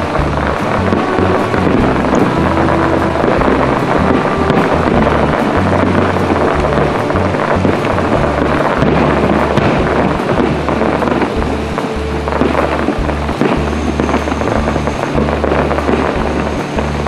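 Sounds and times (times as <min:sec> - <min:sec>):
fireworks bursting and crackling: 0:00.0 - 0:17.0
music with low bass line: 0:00.0 - 0:17.0.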